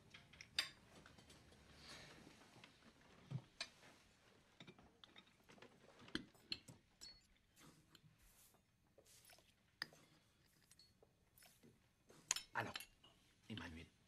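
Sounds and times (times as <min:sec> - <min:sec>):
soft chewing: 0:00.2 - 0:13.5.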